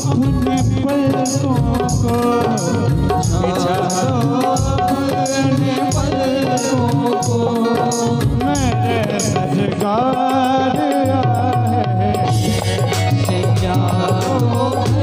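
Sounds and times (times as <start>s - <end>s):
electronic keyboard melody: 0.0s - 15.0s
jingling percussion: 0.0s - 15.0s
tabla drumming: 0.0s - 15.0s.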